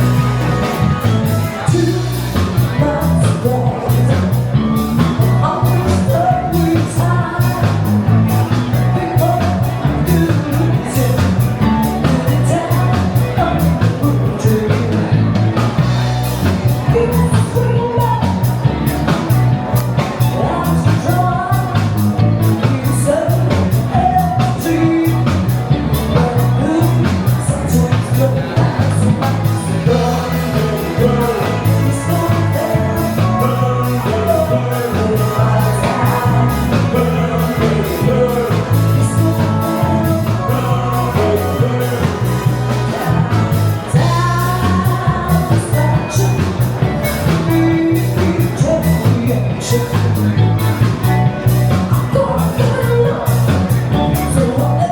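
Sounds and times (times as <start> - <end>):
upbeat rock music with singer: 0.0 - 54.9.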